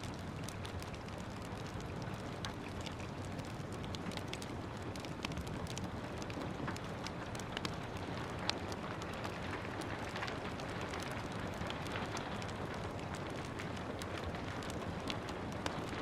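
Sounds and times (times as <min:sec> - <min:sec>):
rain hiss: 0:00.0 - 0:16.0
wood fire crackling: 0:00.0 - 0:16.0.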